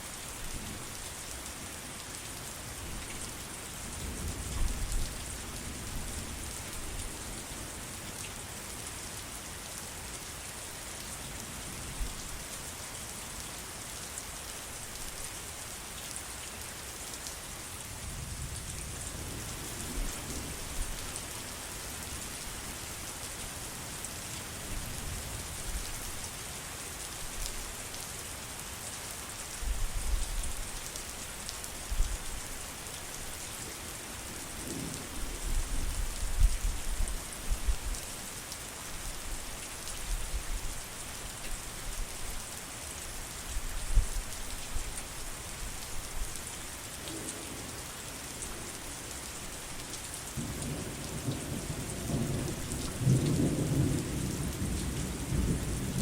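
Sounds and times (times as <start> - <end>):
rain on leaves: 0.0 - 56.0.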